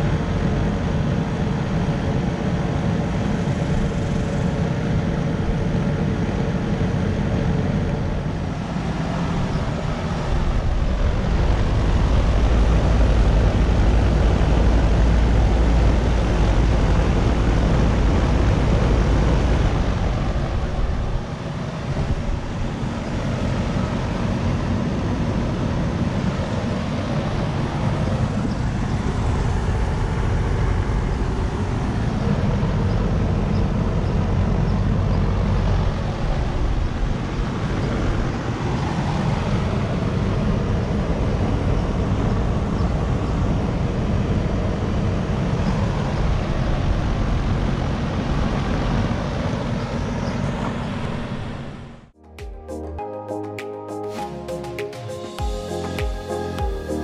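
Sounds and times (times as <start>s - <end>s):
air conditioner unit running: 0.0s - 51.4s.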